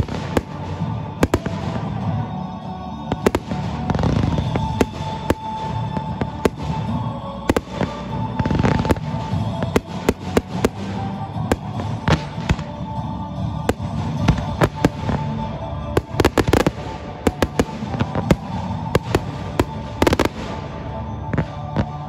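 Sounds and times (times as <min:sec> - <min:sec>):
fireworks bangs and crackling: 0:00.0 - 0:22.0
music: 0:00.0 - 0:22.0.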